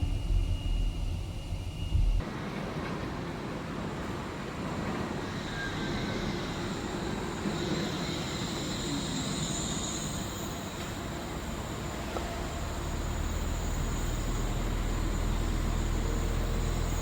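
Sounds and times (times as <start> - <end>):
steel wheels whining: 0.0 - 17.0
suspension railway car rumbling: 0.0 - 17.0.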